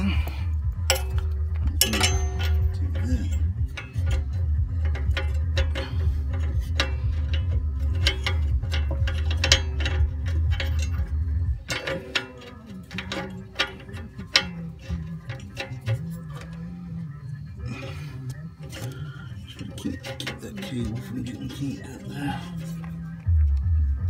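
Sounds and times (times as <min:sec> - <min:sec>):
metallic clicking and ticking: 0:00.0 - 0:23.7
low steady hum: 0:00.0 - 0:24.0.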